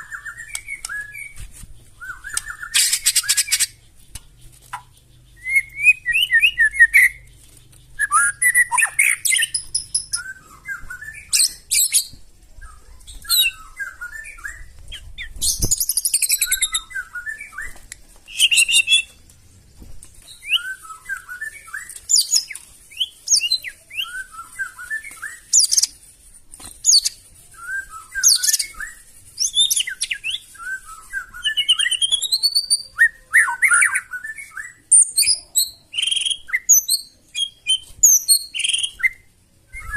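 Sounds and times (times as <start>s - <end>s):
songbird singing with trills: 0.0s - 19.2s, 20.2s - 26.0s, 26.8s - 39.9s.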